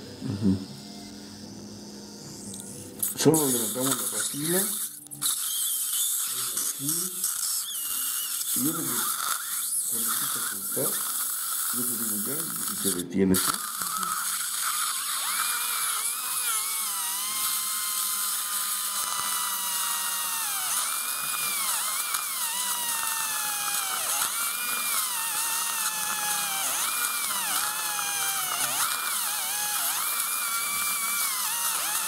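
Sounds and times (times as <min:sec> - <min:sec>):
dental drill whining: 0:00.0 - 0:32.0.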